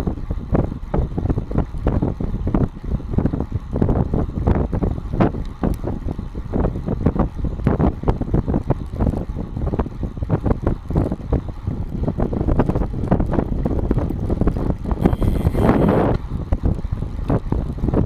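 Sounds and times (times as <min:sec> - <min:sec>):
wind buffeting microphone: 0:00.0 - 0:18.0
tyre and road noise: 0:00.1 - 0:18.0.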